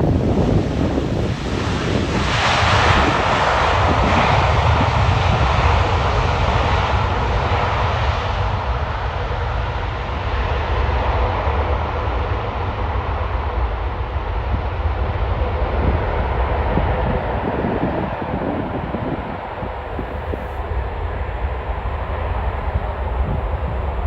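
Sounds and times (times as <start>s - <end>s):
jet airliner engine roar: 0.0s - 24.0s
wind rumble on microphone: 0.0s - 24.0s.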